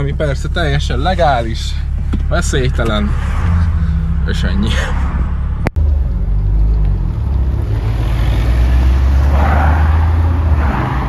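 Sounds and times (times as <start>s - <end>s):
car engine humming: 0.0s - 11.0s
tyre and road noise: 0.0s - 11.0s.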